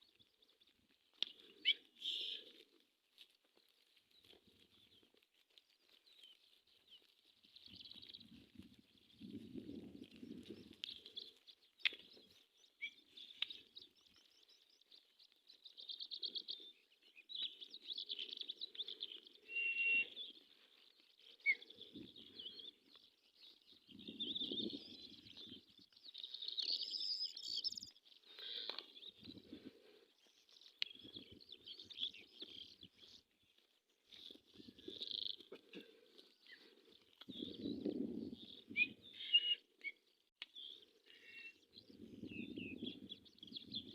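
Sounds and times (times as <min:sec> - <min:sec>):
small birds chirping and trilling: 0:00.0 - 0:43.9.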